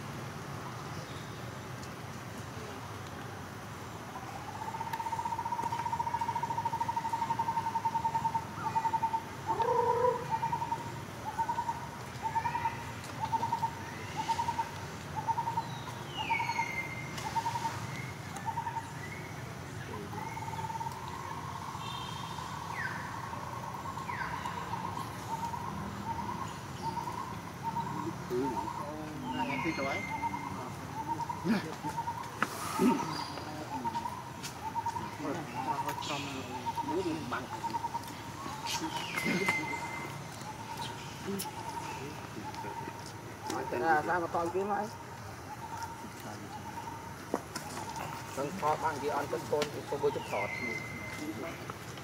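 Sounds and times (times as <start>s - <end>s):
bird calling: 4.2s - 51.8s.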